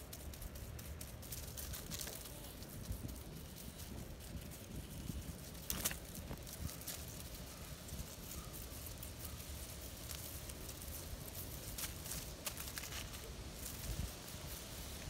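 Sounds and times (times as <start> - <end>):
low outdoor rumble: 0.0 - 15.0
rustling scrapes: 0.0 - 15.0.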